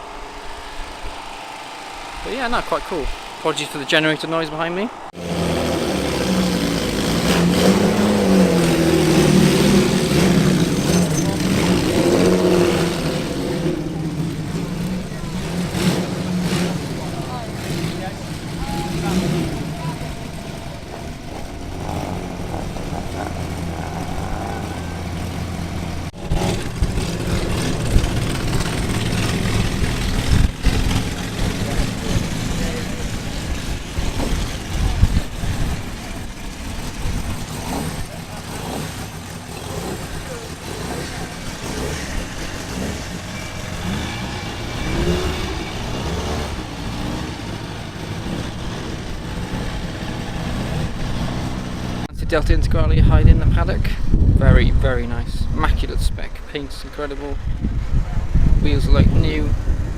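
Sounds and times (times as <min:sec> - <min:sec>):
low engine hum: 0:00.0 - 0:59.9
low generator drone: 0:00.0 - 0:59.9
rough engine running unevenly: 0:00.0 - 0:59.9.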